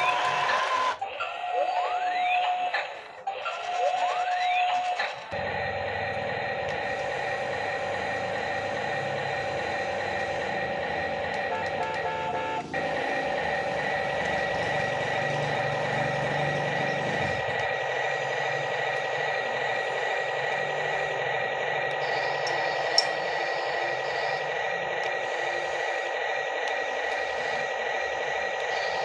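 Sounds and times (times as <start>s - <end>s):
toy vehicle motor whine: 0.0s - 29.0s
beeping: 3.5s - 29.0s.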